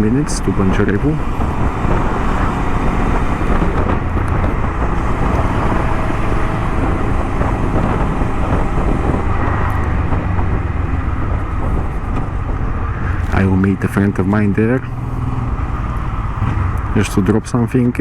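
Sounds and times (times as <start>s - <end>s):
motorcycle engine cruising: 0.0s - 18.0s
wind buffeting microphone: 0.0s - 18.0s.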